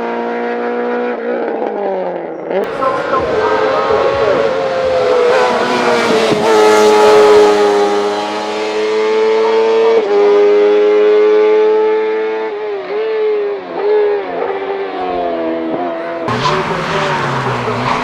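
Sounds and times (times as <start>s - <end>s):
race car engine accelerating: 2.6s - 18.0s.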